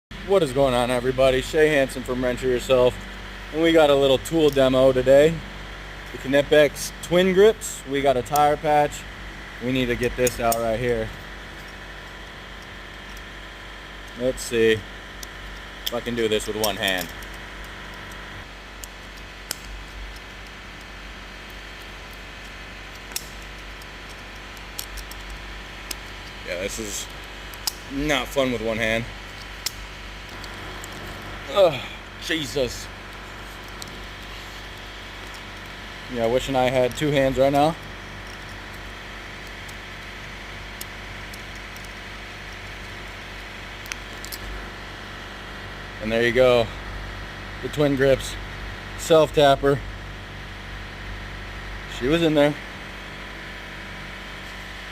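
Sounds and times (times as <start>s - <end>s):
steady low hum: 0.0s - 54.9s
low machine drone: 0.1s - 54.9s.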